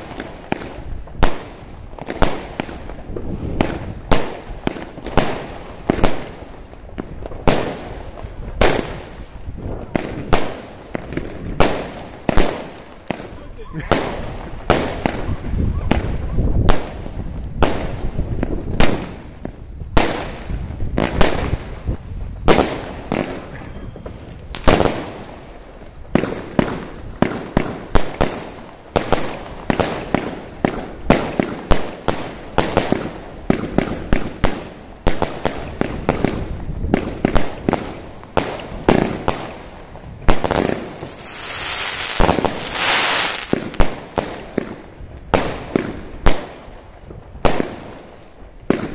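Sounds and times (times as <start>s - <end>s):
crackling fireworks stars: 0.0s - 48.9s
fireworks shots and bursts: 0.0s - 48.9s.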